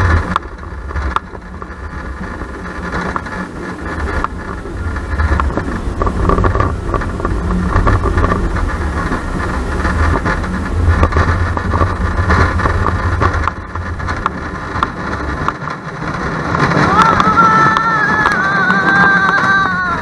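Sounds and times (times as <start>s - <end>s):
rattling and clatter: 0.0s - 20.0s
roller coaster wheels rumbling: 0.0s - 20.0s.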